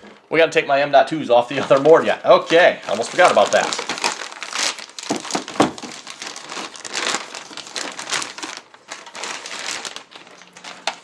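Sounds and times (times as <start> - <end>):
plastic packaging crinkling: 1.5 - 11.0.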